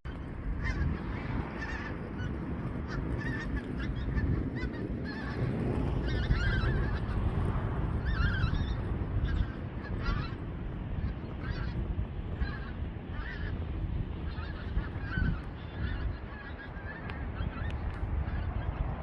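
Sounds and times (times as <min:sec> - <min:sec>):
steady low rumble: 0:00.0 - 0:19.0
birds calling: 0:00.1 - 0:19.0.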